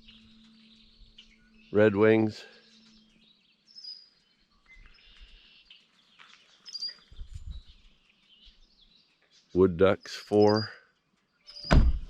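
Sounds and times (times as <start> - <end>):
songbirds singing and chirping: 0.0 - 12.0.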